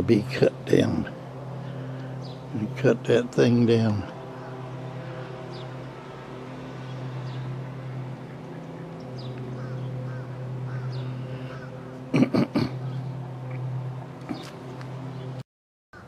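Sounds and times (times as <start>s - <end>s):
low motor hum: 0.0s - 15.4s.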